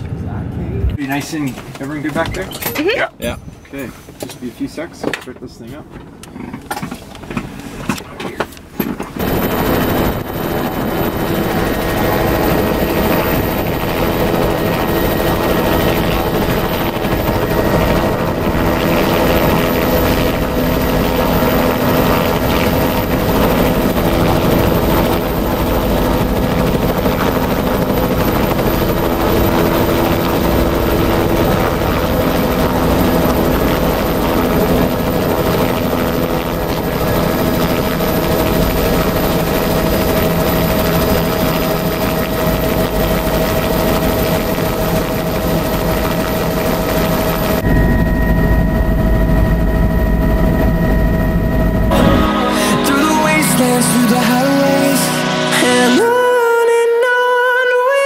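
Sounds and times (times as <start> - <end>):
helicopter engine and rotor: 6.1 - 56.0.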